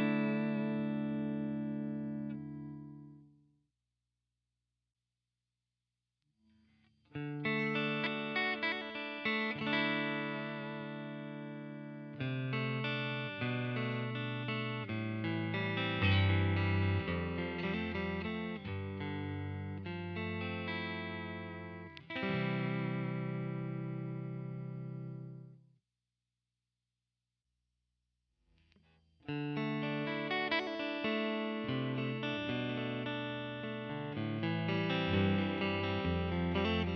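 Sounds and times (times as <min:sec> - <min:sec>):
electric guitar chords and notes: 0:00.0 - 0:03.3, 0:07.1 - 0:25.6, 0:28.8 - 0:36.9.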